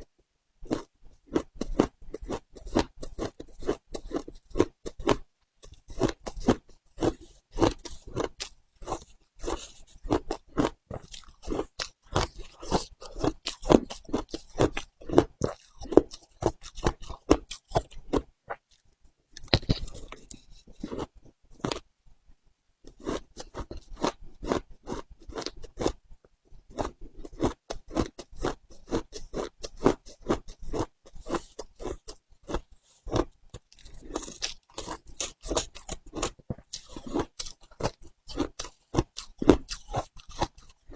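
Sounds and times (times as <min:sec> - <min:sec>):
ice being chewed: 0:00.6 - 0:21.8, 0:22.9 - 0:26.0, 0:26.7 - 0:40.9.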